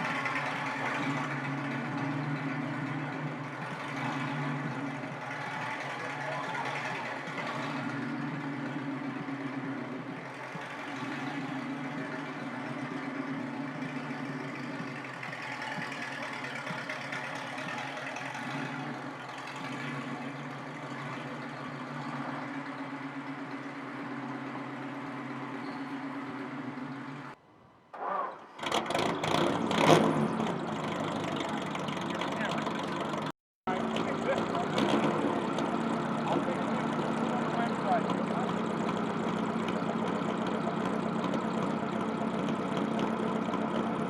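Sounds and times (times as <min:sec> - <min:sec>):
car engine idling: 0:00.0 - 0:27.4, 0:28.0 - 0:44.0.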